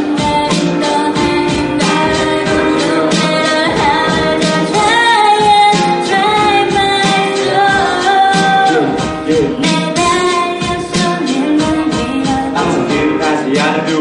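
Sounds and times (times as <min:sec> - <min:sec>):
backing track: 0:00.0 - 0:14.0
woman singing pop ballad: 0:00.0 - 0:14.0.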